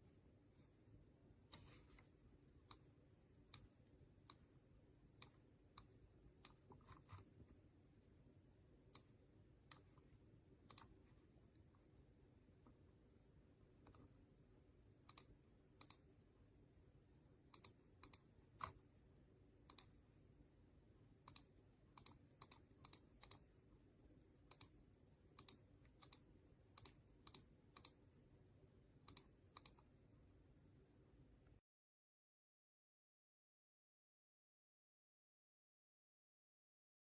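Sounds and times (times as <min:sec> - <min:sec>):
low steady hum: 0:00.0 - 0:31.6.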